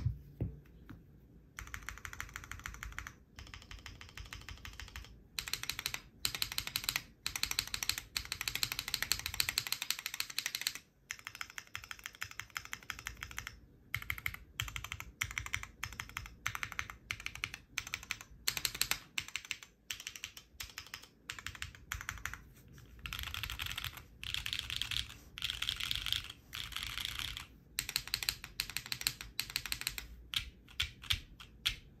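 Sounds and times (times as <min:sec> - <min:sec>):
mechanical keyboard typing: 0:01.6 - 0:32.0.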